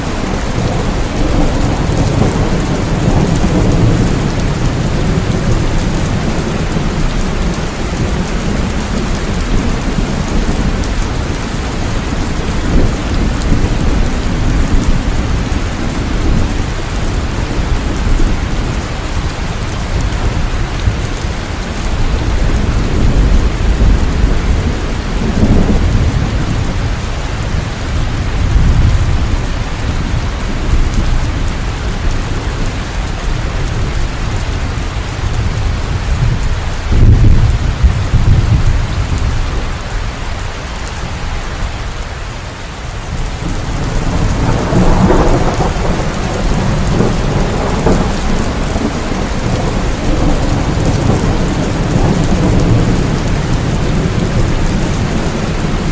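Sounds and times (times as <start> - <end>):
rolling thunder: 0.0 - 40.0, 43.0 - 55.9
steady rain: 0.0 - 55.9.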